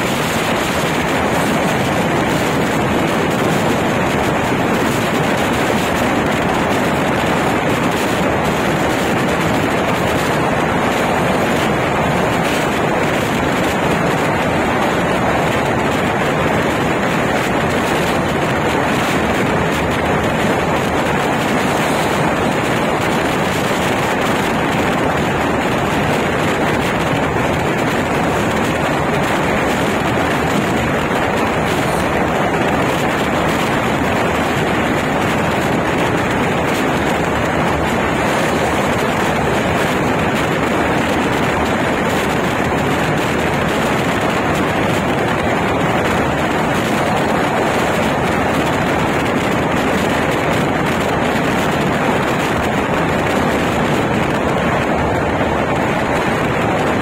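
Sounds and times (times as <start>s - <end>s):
train coaches rushing at speed: 0.0s - 57.0s.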